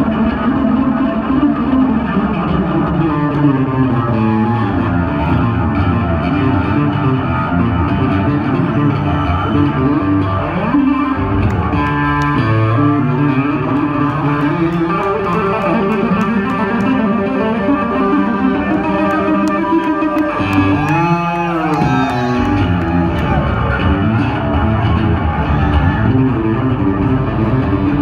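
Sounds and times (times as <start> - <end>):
electric bass playing: 0.0 - 28.0.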